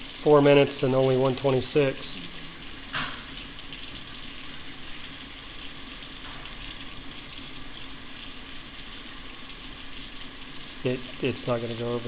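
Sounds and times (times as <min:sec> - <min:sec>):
tap water running into a sink: 0:00.0 - 0:12.0.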